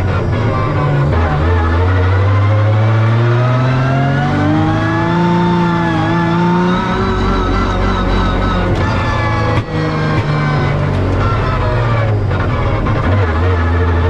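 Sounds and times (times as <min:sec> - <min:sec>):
turbocharged car engine revving: 0:00.0 - 0:14.0.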